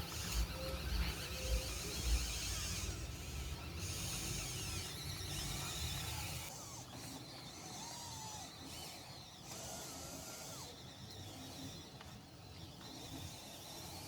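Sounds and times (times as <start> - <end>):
small electric motors whirring: 0.0 - 14.0.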